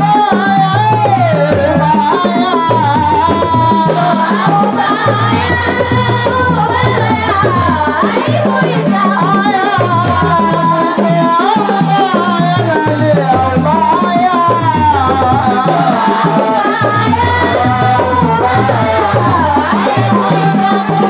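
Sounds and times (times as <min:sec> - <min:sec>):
frame drums: 0:00.0 - 0:21.0
jingling tambourines: 0:00.0 - 0:21.0
person singing with vibrato: 0:00.0 - 0:21.0.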